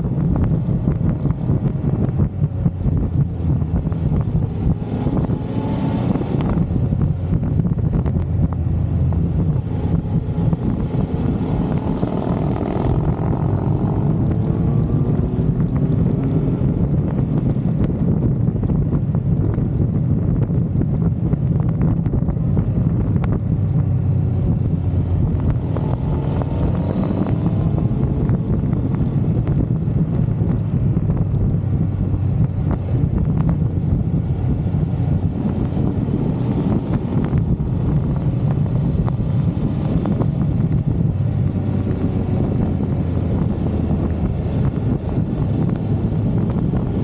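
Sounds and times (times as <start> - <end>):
motorcycle engine: 0.0 - 17.5, 18.1 - 47.0
wind rush on microphone: 0.0 - 47.0.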